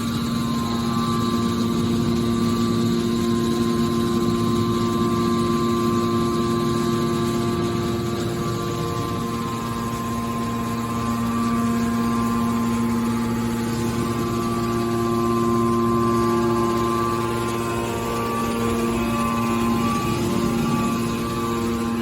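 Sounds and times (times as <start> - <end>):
hydraulic power unit humming: 0.0 - 22.0.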